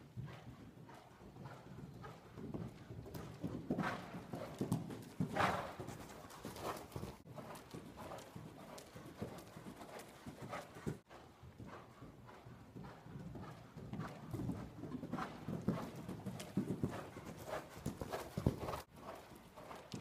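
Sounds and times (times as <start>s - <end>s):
horse hoofbeats on sand: 0.2s - 20.0s.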